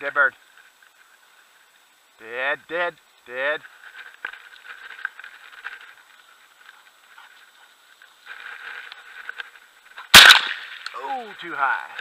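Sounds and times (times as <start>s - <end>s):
faint rustling: 0.3s - 2.2s, 3.0s - 12.0s.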